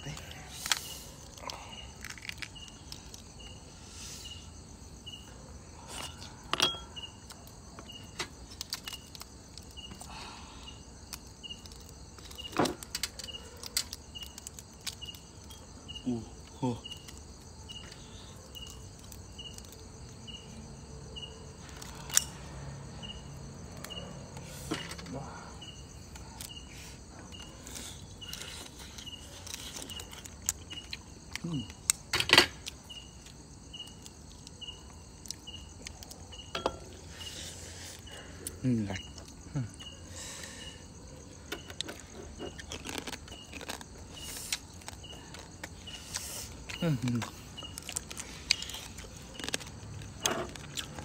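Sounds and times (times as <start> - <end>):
cricket chirping: 0.0 - 51.0.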